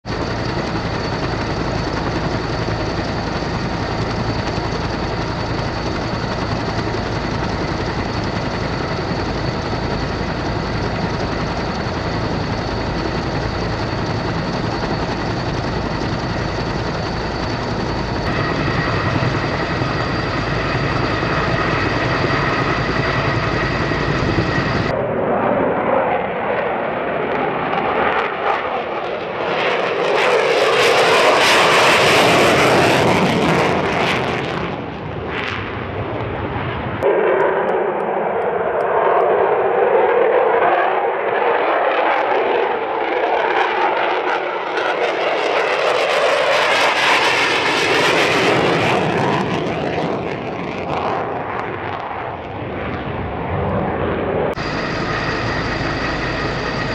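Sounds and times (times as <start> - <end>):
jet engines whining: 0.0 - 56.9
jet roar in afterburner: 0.0 - 56.9.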